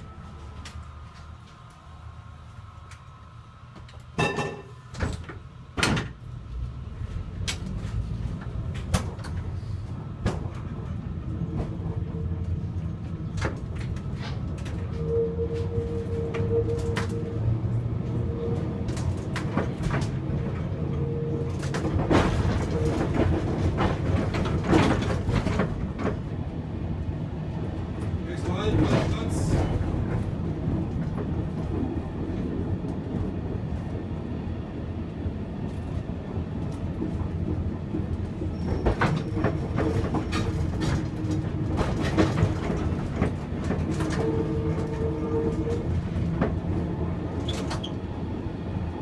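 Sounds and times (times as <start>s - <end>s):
tram wheels and motors rumbling: 0.0s - 49.0s.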